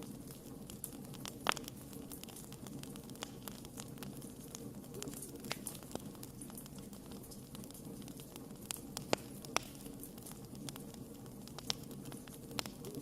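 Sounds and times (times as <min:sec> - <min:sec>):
campfire popping and snapping: 0:00.0 - 0:13.0
low steady background: 0:00.0 - 0:13.0.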